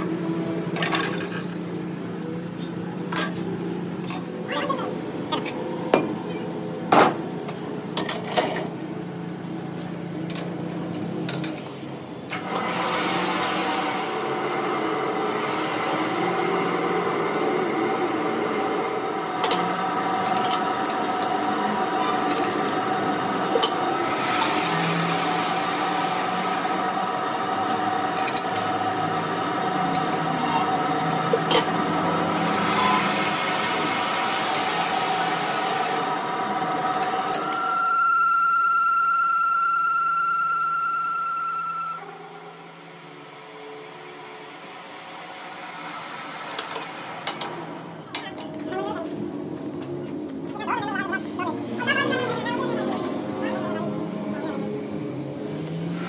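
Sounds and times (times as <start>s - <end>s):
shop machinery humming: 0.0s - 56.0s.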